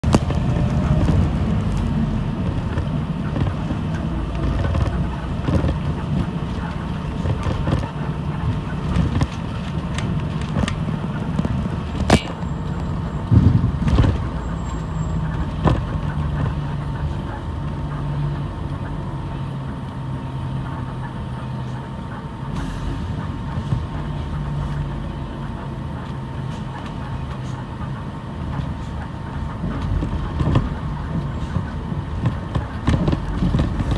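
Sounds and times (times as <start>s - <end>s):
bus engine and road drone: 0.0s - 33.9s.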